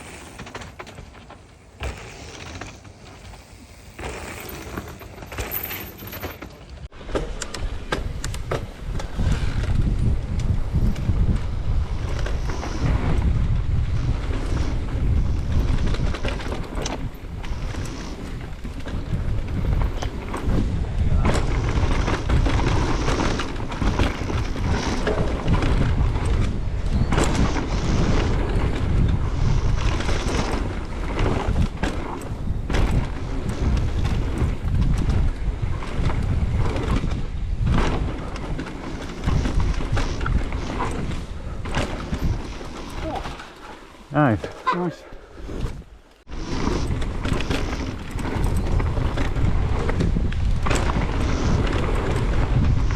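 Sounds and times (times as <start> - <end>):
mountain bike rumble and rattle: 0.0 - 52.9
wind buffeting microphone: 6.8 - 52.9.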